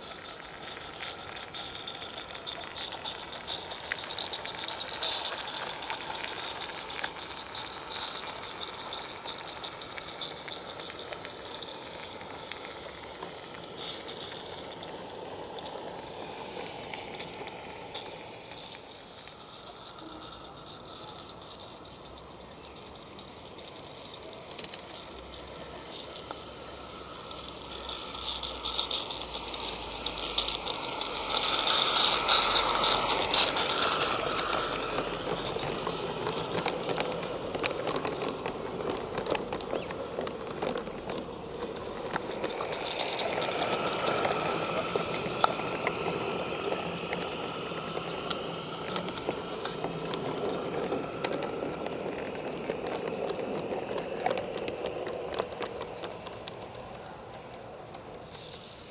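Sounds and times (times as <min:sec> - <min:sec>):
small wheels clicking on track: 0:00.0 - 0:58.9
steam hiss: 0:00.0 - 0:58.9.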